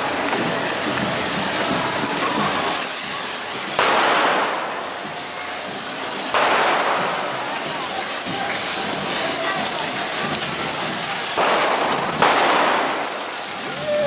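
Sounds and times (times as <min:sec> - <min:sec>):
fireworks hissing and crackling: 0:00.0 - 0:14.0.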